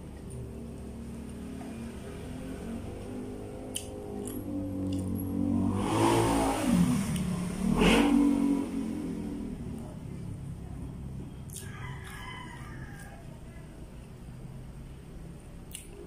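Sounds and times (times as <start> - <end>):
vehicle engine passing by: 0.2 - 15.6.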